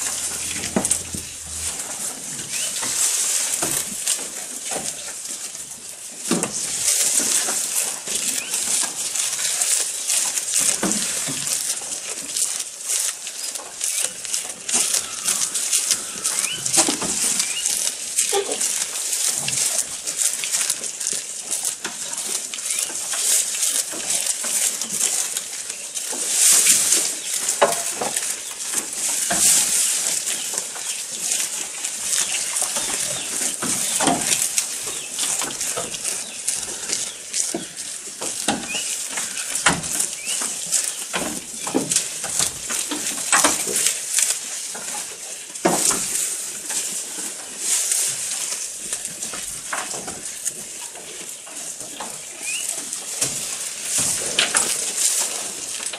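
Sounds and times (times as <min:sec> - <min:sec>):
goats chewing rustling leaves: 0:00.0 - 0:55.9.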